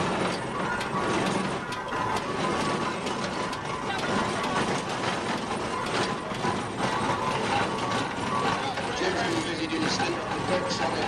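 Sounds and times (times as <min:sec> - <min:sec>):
gearing clicking and clanking: 0:00.0 - 0:11.0
steam engine running: 0:00.0 - 0:11.0.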